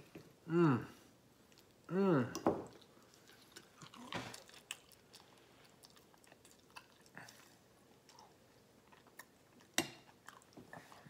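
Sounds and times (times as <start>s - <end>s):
faint chewing with wet mouth clicks: 1.4s - 11.0s.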